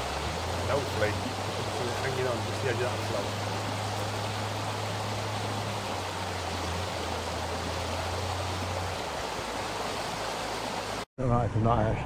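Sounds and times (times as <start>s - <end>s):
water pouring and rushing: 0.0s - 11.1s.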